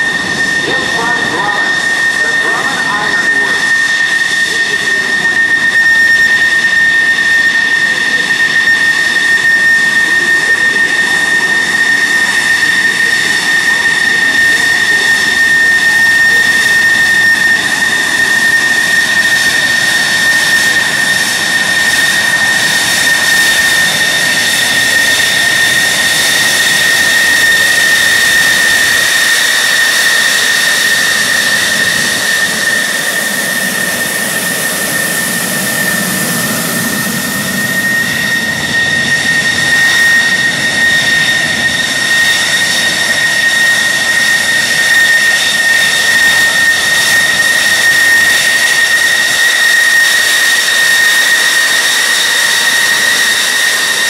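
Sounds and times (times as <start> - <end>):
jet engines whining: 0.0 - 54.0
jet exhaust rushing: 0.0 - 54.0.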